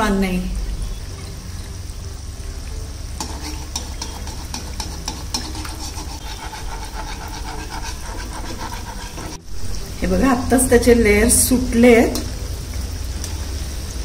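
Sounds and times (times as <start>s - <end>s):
pastry sizzling in hot oil: 0.0s - 14.0s.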